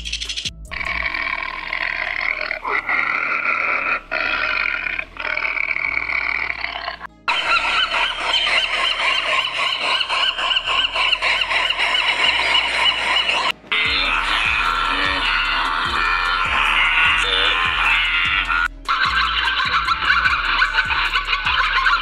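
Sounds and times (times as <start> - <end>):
animal calls: 0.7 - 22.0.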